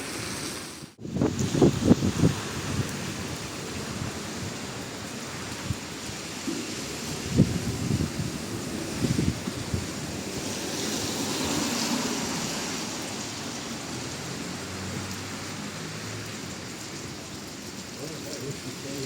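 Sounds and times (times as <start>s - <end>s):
hiss of wet street: 0.0s - 19.0s.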